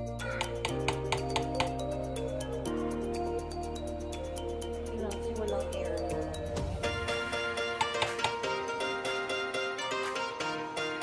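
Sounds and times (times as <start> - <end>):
instrumental music with quick notes: 0.0 - 11.0.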